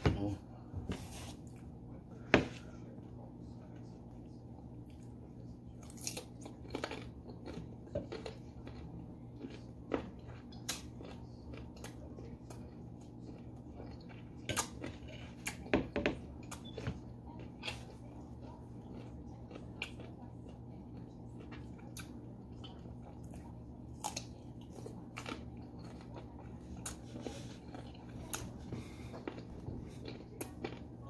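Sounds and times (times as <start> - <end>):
crunchy chewing of mango: 4.9 - 31.0.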